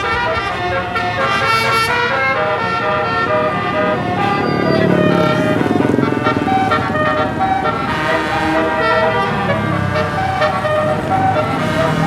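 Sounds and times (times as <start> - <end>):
musical air horn melody: 0.0 - 12.0.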